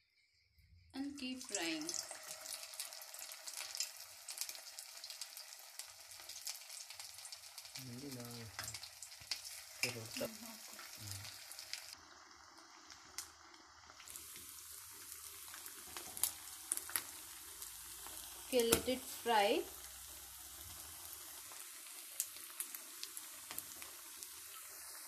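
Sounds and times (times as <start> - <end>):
cutlets sizzling in hot oil: 1.0 - 25.0.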